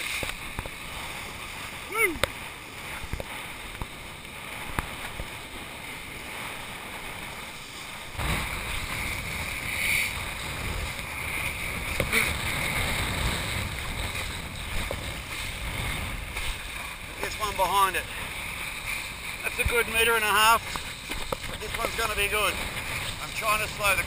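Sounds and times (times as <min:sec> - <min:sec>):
kiteboard rushing over water: 0:00.0 - 0:24.0
wind buffeting microphone: 0:00.0 - 0:24.0.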